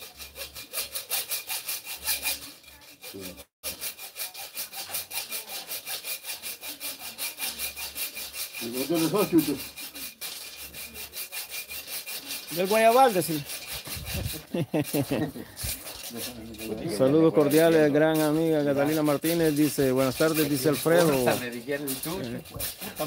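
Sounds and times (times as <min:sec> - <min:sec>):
hand saw cutting wood: 0:00.0 - 0:23.0.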